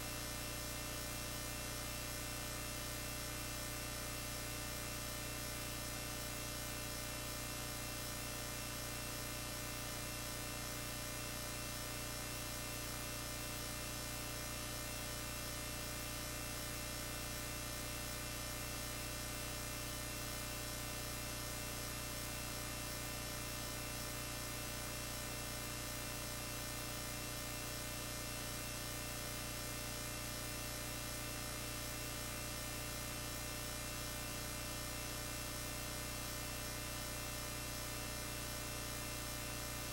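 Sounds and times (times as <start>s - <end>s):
buzzy electrical mains hum: 0.0s - 39.9s.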